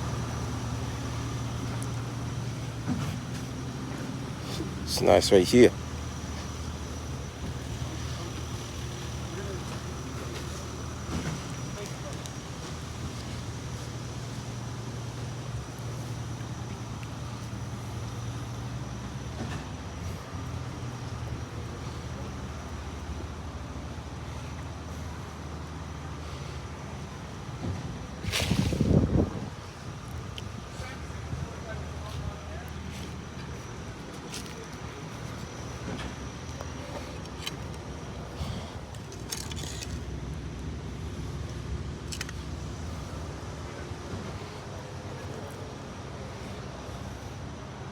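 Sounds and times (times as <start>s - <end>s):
engine running steadily: 0.0s - 47.9s
low motor rumble: 0.0s - 47.9s.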